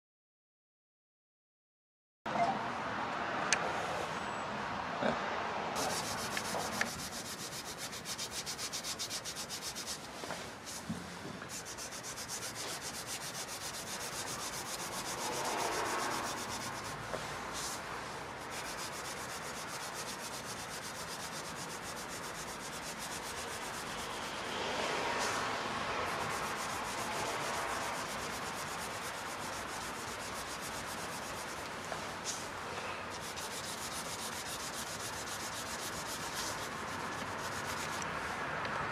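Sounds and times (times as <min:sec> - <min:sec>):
sandpaper rasping on metal: 0:05.8 - 0:10.9, 0:11.5 - 0:38.1.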